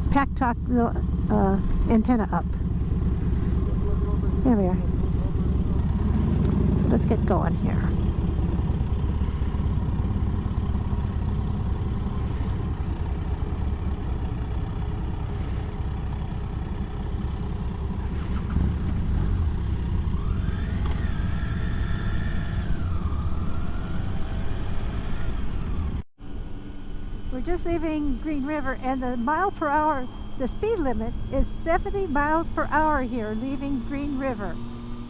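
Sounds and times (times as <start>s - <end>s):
motorcycle engine pulling away: 0.0s - 35.0s
rising whine: 0.9s - 15.4s, 16.4s - 35.0s.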